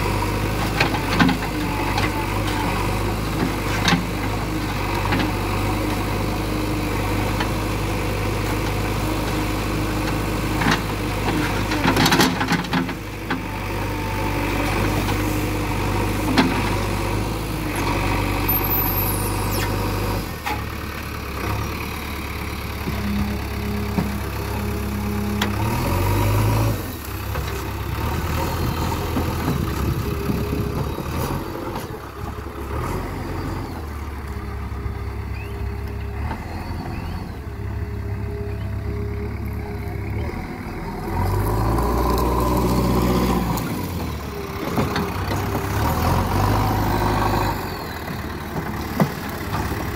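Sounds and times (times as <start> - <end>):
diesel engine under load: 0.0 - 49.9.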